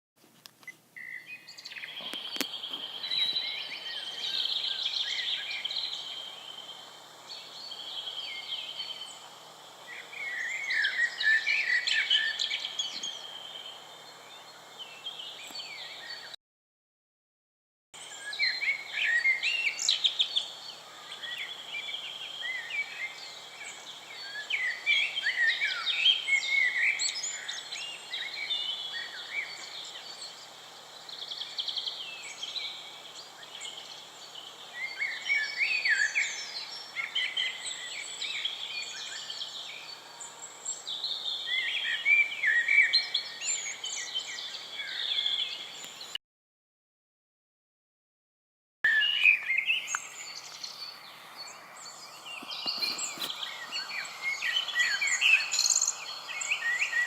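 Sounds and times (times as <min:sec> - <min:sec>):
songbirds singing: 0:00.5 - 0:16.4, 0:18.0 - 0:46.2, 0:48.9 - 0:57.0.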